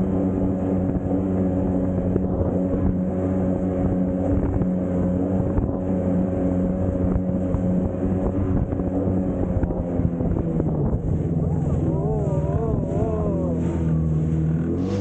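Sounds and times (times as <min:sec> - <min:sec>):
jet ski engine running: 0:00.0 - 0:15.0
water rushing past hull: 0:00.0 - 0:15.0
wind buffeting microphone: 0:00.0 - 0:15.0.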